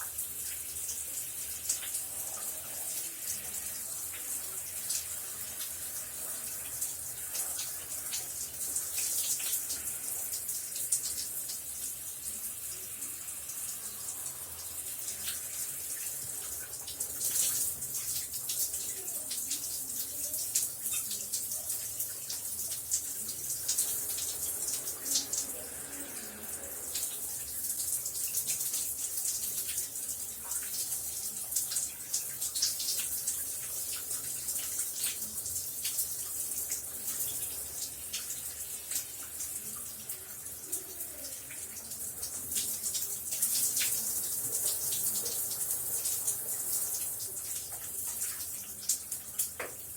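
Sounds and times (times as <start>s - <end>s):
shower water running: 0.0s - 49.9s.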